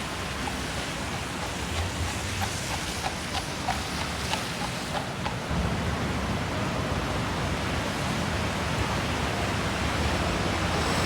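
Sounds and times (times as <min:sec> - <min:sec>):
rushing city noise: 0:00.0 - 0:11.0.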